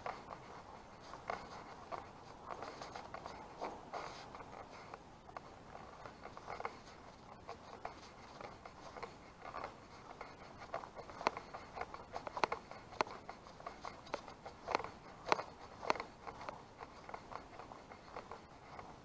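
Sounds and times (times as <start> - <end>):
footsteps walking: 0.0 - 19.0
light rustling: 0.0 - 19.0.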